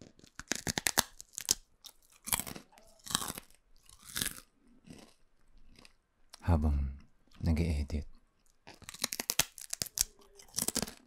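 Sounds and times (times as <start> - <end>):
person chewing crunchy snack: 0.0 - 6.4, 8.4 - 11.0.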